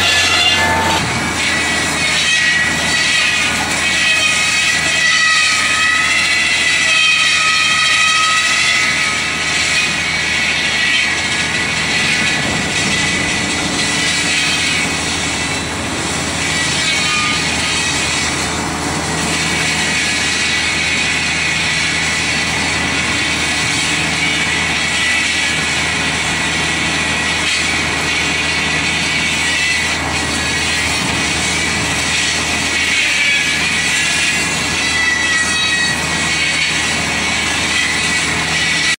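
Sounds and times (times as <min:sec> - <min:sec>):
brush cutter running: 0:00.0 - 0:39.0.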